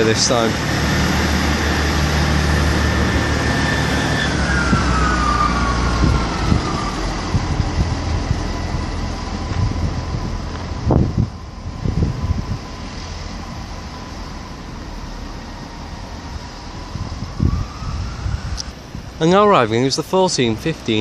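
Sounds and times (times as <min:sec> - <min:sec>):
train engine drone: 0:00.0 - 0:21.0.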